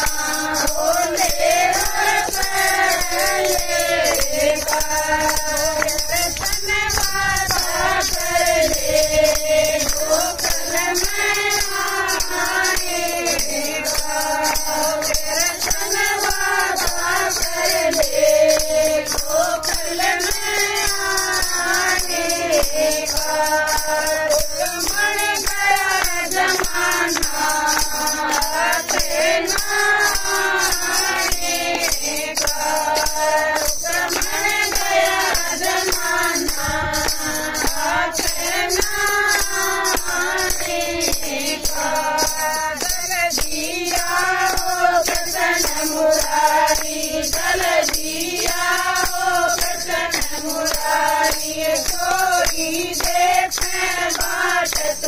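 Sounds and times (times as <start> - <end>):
hand claps: 0.0 - 55.0
jingling percussion: 0.0 - 55.0
women singing in unison: 0.0 - 55.0.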